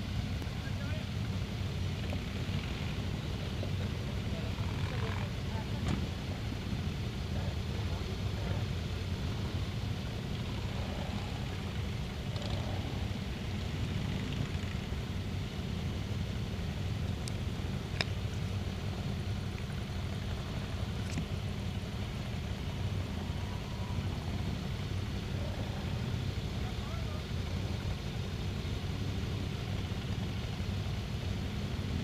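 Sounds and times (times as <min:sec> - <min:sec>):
motorcycle engines idling: 0:00.0 - 0:32.0.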